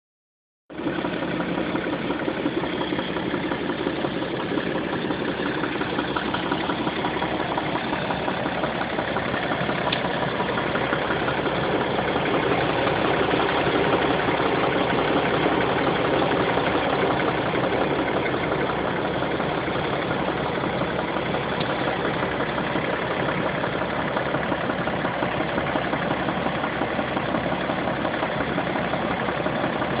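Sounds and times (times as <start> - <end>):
diesel engine idling: 0.7 - 30.0
foreign engine noise: 0.7 - 30.0.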